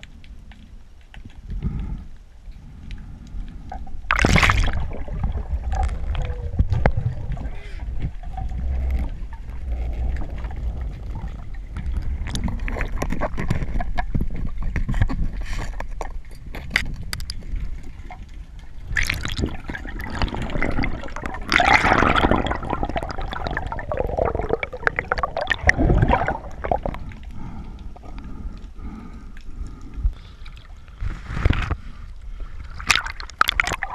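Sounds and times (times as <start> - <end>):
underwater clicks and crackles: 0.0 - 33.9
underwater rumble of moving water: 0.0 - 33.9.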